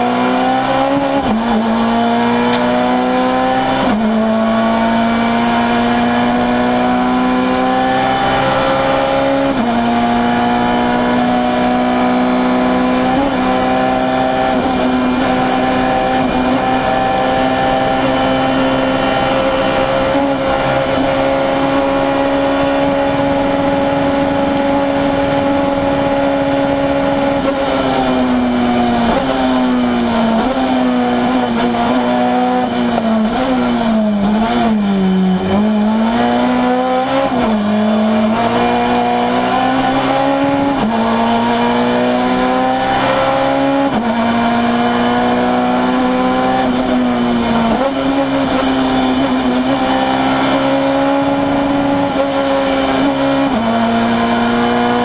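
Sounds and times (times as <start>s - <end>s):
rally car engine at high revs: 0.0s - 55.0s.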